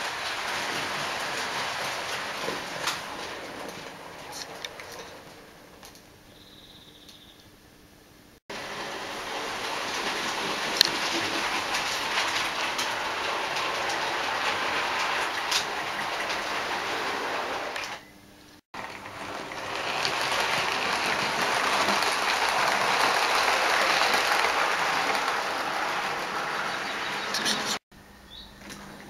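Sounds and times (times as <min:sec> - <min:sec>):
model trains running on track: 0:00.0 - 0:04.9, 0:08.5 - 0:17.9, 0:18.8 - 0:27.8
model train passing close by: 0:00.0 - 0:06.0, 0:08.5 - 0:18.0, 0:18.8 - 0:27.8.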